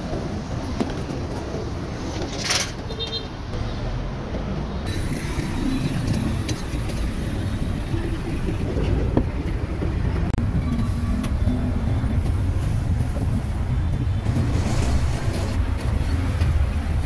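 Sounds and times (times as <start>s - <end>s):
rumble of passing vehicles: 0.0s - 17.0s.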